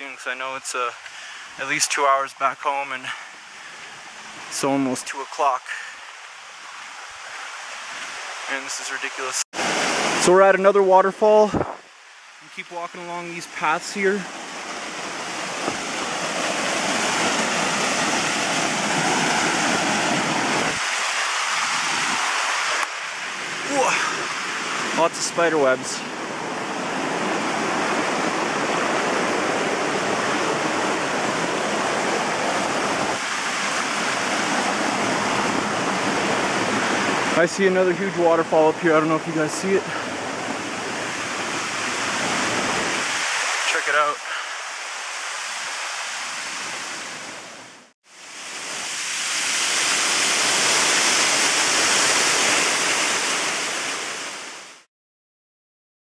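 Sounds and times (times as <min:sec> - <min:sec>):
waterfall rushing: 0:00.0 - 0:54.8.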